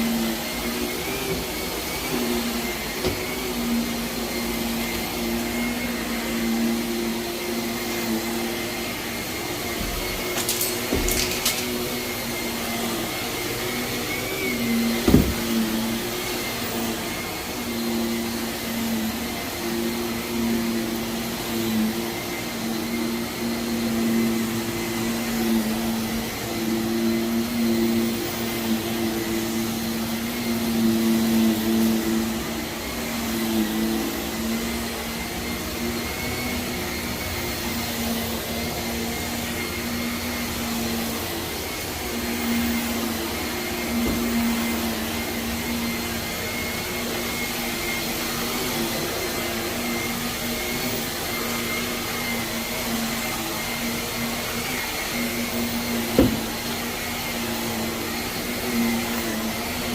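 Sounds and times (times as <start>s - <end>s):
vacuum cleaner on carpet: 0.0s - 59.9s.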